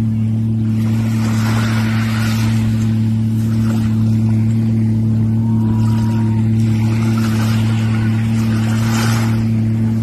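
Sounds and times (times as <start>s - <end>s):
watercraft engine humming: 0.0s - 10.0s.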